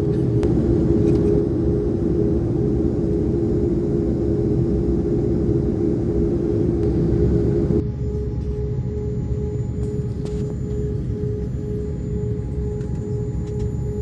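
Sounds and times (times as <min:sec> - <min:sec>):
airliner engine drone: 0:00.0 - 0:14.0.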